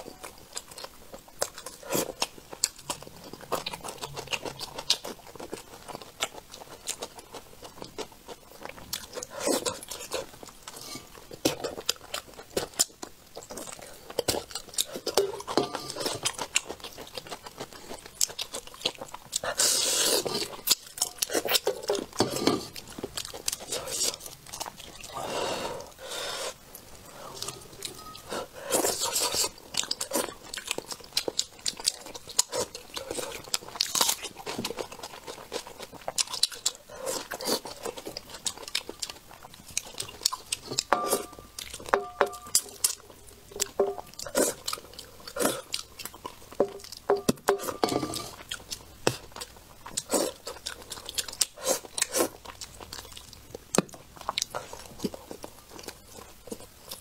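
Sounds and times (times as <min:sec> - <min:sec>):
person chewing and biting food: 0:00.0 - 0:25.2, 0:26.6 - 0:57.0.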